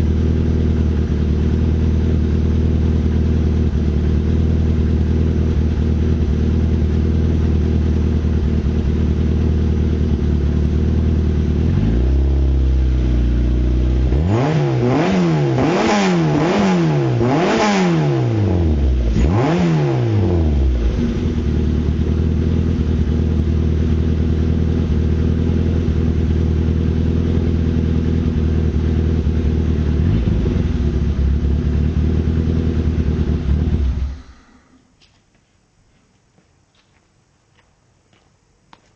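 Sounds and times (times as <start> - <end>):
car engine idling and revving: 0.0 - 34.4.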